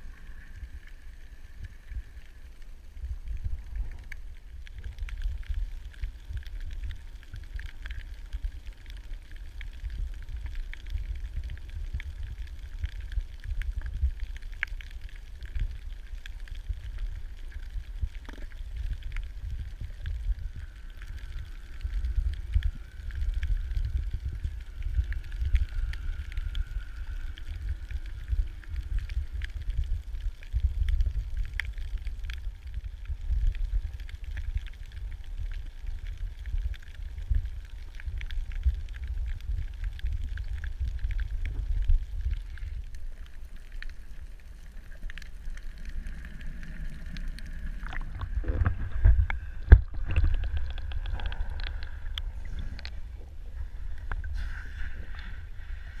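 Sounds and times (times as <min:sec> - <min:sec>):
water rumbling: 0:00.0 - 0:56.0.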